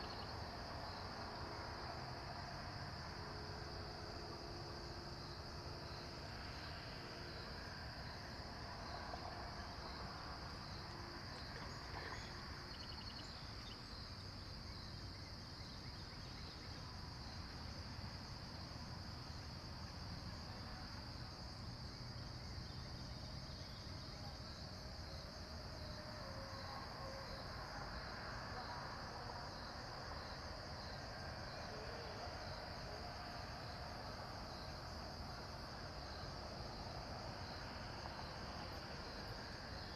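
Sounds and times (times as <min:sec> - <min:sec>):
insects trilling: 0:00.0 - 0:01.2, 0:03.7 - 0:39.9.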